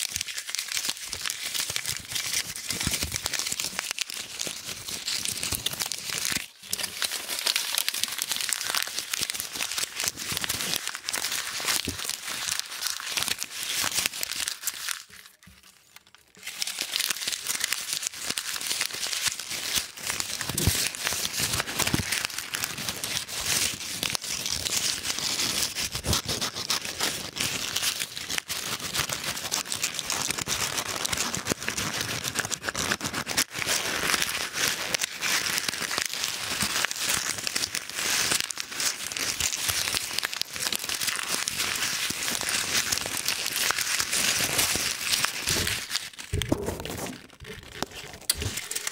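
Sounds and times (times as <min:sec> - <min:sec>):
paper banknotes crumpling: 0:00.0 - 0:48.9.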